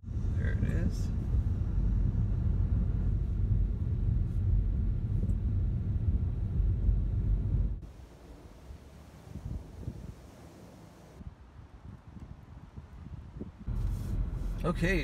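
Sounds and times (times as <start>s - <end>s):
car road and engine rumble: 0.0s - 11.8s, 13.0s - 15.0s.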